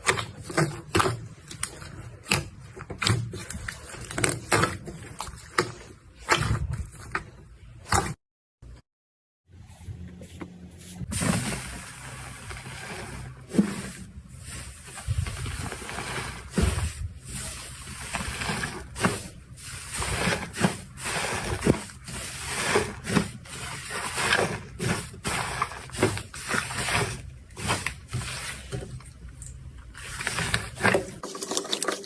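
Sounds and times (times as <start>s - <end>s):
slime squishing: 0.0s - 8.2s, 11.2s - 32.0s.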